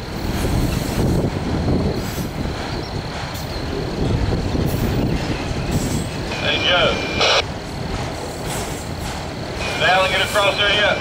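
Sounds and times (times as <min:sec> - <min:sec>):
freight train wheels rumbling on rail: 0:00.0 - 0:11.0.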